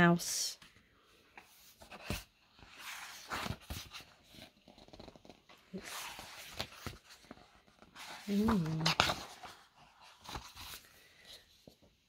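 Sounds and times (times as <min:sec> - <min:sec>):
paper pages rustling: 0:01.4 - 0:12.0.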